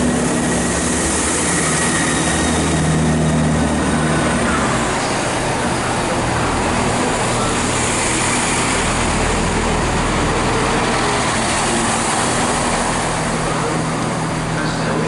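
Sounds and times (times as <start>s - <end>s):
train engines droning: 0.0s - 15.0s.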